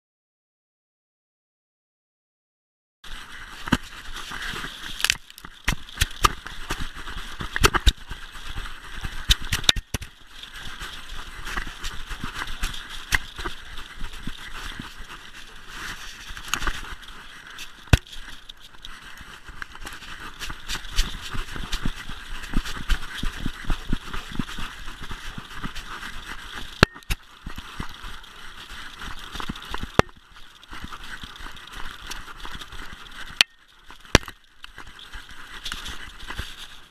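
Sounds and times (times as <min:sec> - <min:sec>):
dog paws in snow: 0:03.1 - 0:36.9.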